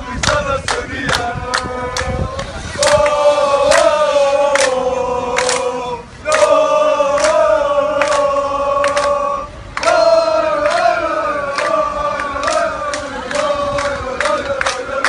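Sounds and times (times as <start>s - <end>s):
football supporters chanting: 0.0s - 15.0s.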